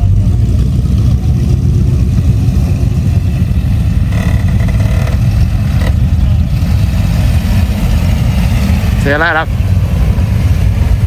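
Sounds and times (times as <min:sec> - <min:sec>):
car exhaust rumble: 0:00.0 - 0:11.0.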